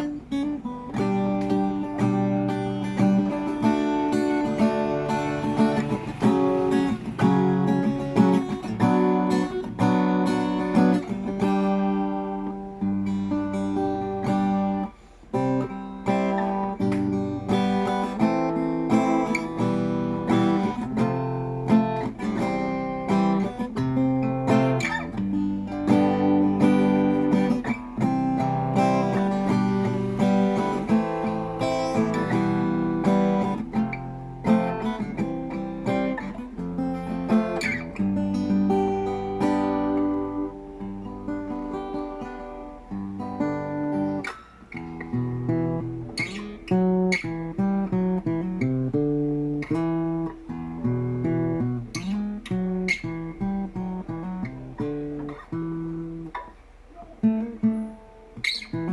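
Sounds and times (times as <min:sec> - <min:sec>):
acoustic guitar strumming chords: 0:00.0 - 0:58.9.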